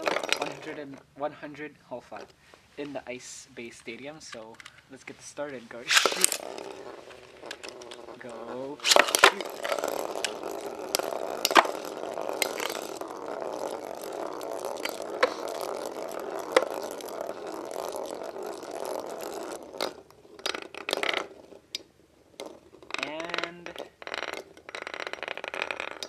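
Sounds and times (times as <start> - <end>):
spinning tops clashing clicks: 0.0 - 0.8, 5.8 - 26.0
spinning tops whirring and grinding: 0.0 - 1.2, 4.2 - 26.0.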